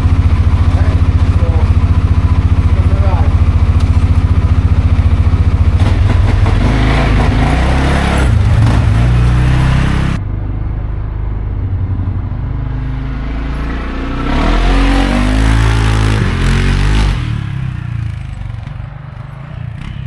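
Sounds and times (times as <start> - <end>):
atv engine revving: 0.0 - 10.6, 11.6 - 20.0.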